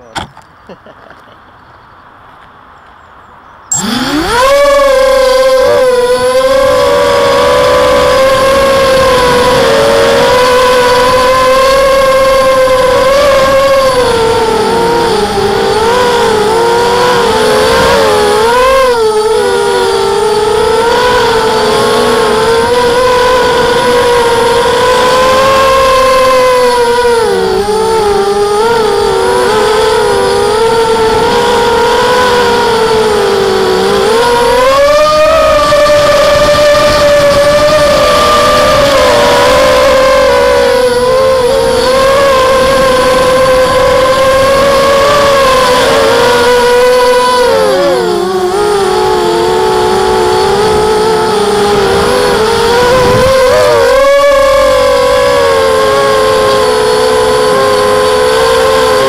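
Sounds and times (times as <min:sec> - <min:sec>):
quadcopter motors whining: 0:00.0 - 0:00.8, 0:03.7 - 0:59.0.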